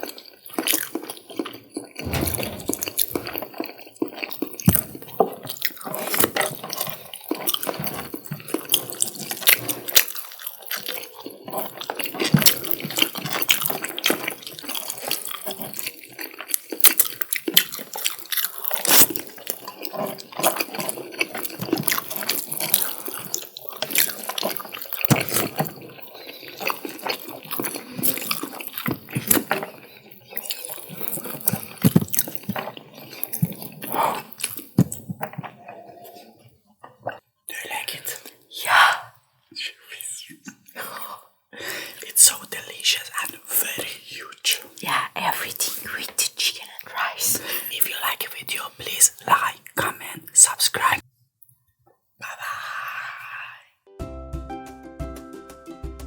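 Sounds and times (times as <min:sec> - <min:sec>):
wet chewing and mouth sounds: 0:00.0 - 0:51.0.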